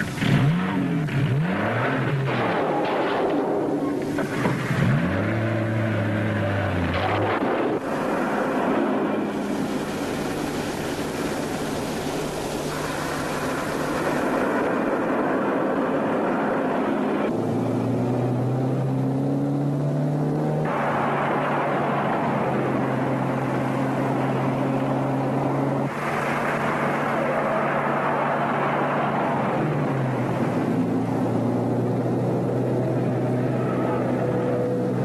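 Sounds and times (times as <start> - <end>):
car engines running: 0.0 - 35.0
tyre and road noise: 0.0 - 35.0.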